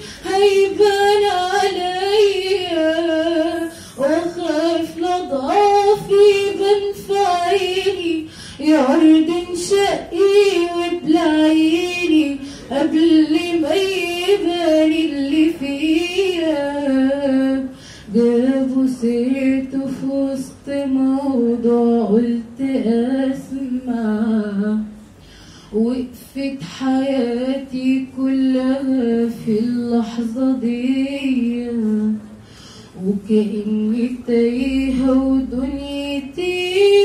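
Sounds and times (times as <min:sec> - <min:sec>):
girl singing unaccompanied: 0:00.0 - 0:25.0, 0:25.8 - 0:32.2, 0:33.0 - 0:37.0.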